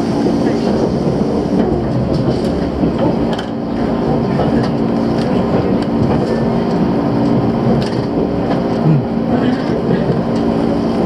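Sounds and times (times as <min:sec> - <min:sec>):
electrical hum of trains: 0:00.0 - 0:11.0.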